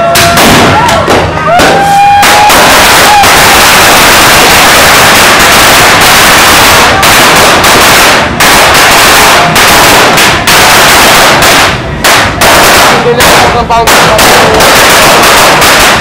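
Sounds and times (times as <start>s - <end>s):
firecrackers going off: 0.0s - 16.0s.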